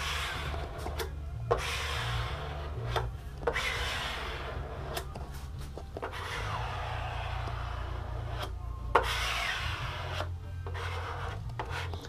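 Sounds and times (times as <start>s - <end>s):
hand rubbing sheet on board: 0.0s - 12.0s.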